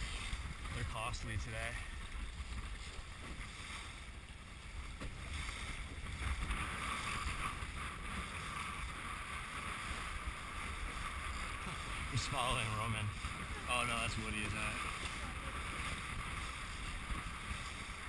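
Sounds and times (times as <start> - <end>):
water rushing along hull: 0.0 - 18.0
wind buffeting microphone: 0.0 - 18.0.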